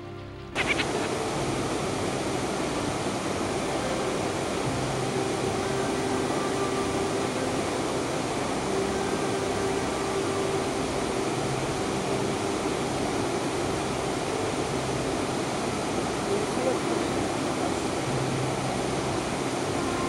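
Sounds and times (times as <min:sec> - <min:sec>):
river flowing over rocks: 0:00.6 - 0:20.0.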